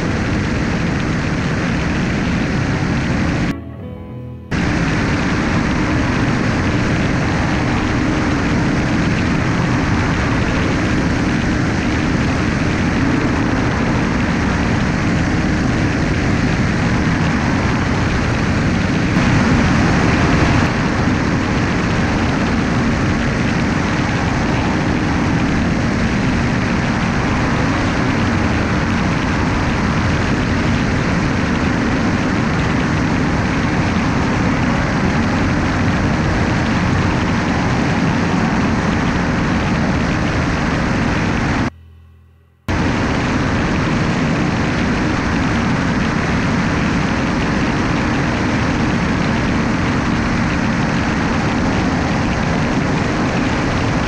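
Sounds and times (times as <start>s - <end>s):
wind rush noise: 0.0s - 3.6s, 4.5s - 41.7s, 42.7s - 54.0s
light aircraft engine drone: 0.0s - 41.8s, 42.7s - 54.0s.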